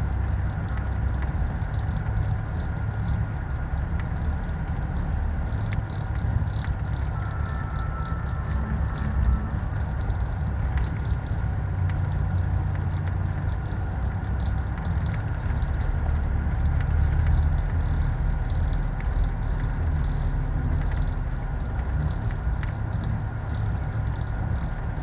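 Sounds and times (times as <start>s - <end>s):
faint ticks and rattles: 0.0s - 25.0s
vehicle rumble: 0.0s - 25.0s.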